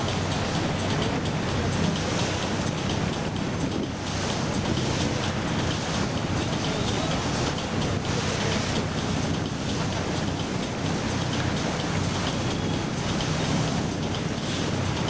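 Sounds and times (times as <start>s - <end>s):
motor boat engine running: 0.0s - 15.0s
wind and water noise: 0.0s - 15.0s.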